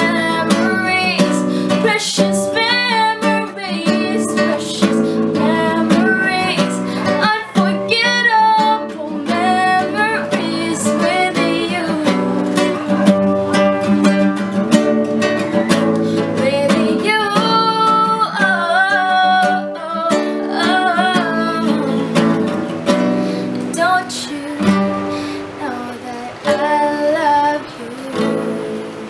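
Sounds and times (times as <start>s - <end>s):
strummed classical guitar: 0.0s - 29.0s
woman singing: 0.0s - 29.0s.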